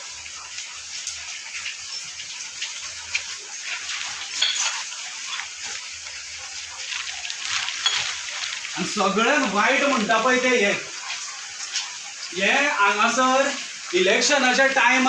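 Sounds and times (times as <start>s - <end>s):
rainwater running and splashing: 0.0s - 15.0s.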